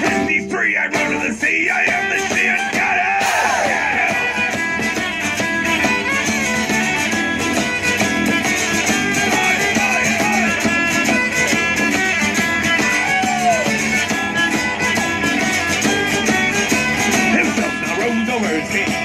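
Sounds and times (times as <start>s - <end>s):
folk band playing: 0.0s - 19.0s
plucked strings: 0.0s - 19.0s.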